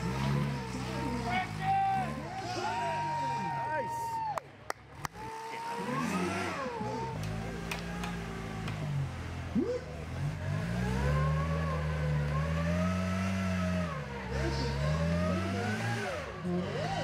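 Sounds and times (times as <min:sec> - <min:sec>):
buggy engine revving: 0:00.0 - 0:04.1, 0:04.8 - 0:17.0.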